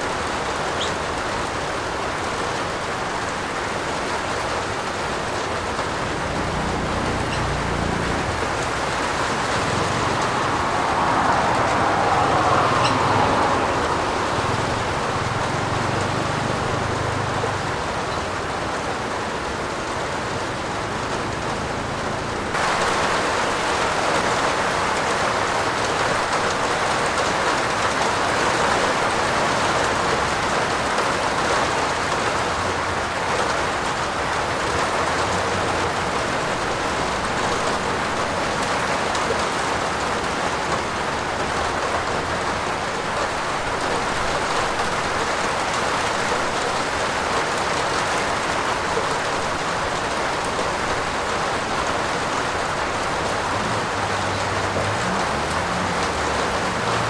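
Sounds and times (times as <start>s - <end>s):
heavy rain on a roof: 0.0s - 57.0s.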